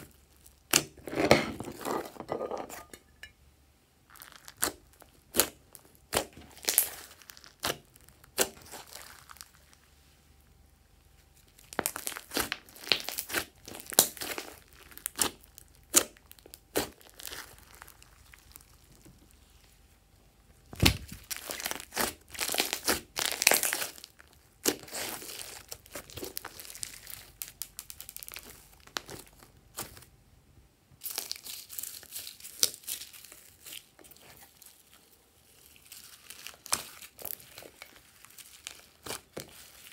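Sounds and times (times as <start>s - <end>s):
slime crackling and popping: 0.0s - 1.0s, 4.1s - 9.9s, 11.4s - 19.4s, 20.7s - 30.1s, 31.0s - 39.9s.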